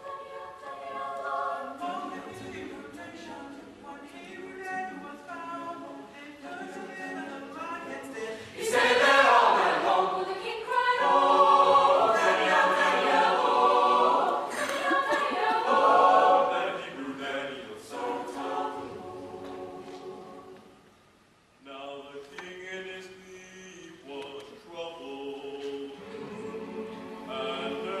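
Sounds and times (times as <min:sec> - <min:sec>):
choir singing: 0:00.0 - 0:20.8, 0:23.8 - 0:28.0.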